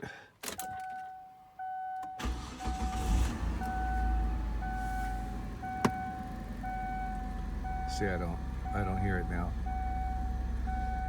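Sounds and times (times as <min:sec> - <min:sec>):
dashboard warning chime: 0:00.6 - 0:11.0
car engine cranking and idling: 0:01.9 - 0:11.0.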